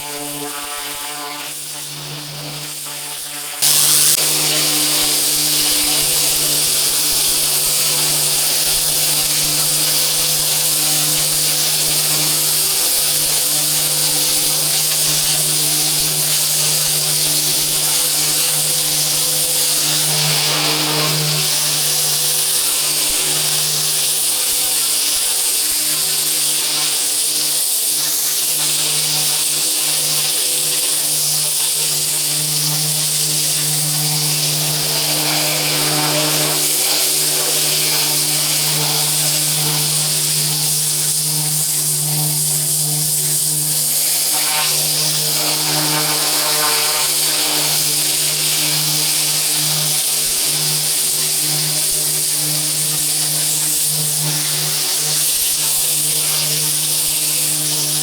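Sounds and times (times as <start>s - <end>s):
water jet hissing: 3.6s - 54.2s
pressure washer motor hum: 3.6s - 58.0s.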